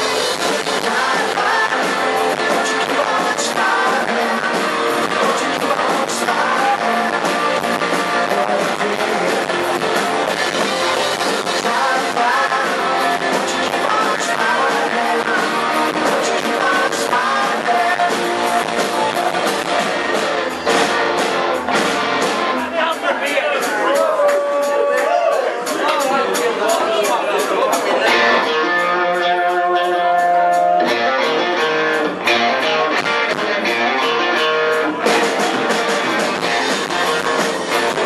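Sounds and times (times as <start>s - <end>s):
person singing: 0.0s - 20.9s, 28.0s - 38.0s
electric guitars: 0.0s - 23.0s, 27.3s - 38.0s
bass guitar: 0.0s - 26.7s, 27.3s - 38.0s
drums: 0.0s - 38.0s.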